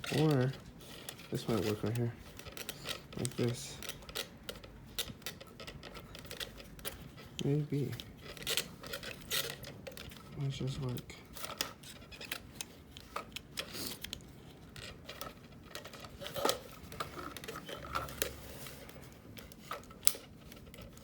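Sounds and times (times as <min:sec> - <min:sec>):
tool clicking on plastic clips: 0:00.0 - 0:21.0.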